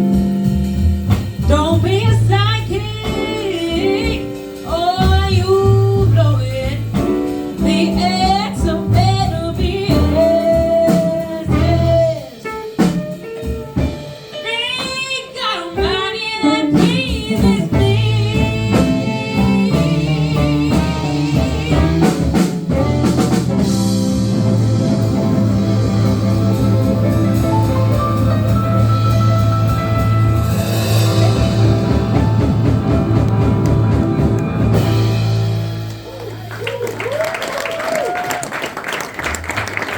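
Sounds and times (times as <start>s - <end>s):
soul band playing: 0.0s - 39.9s.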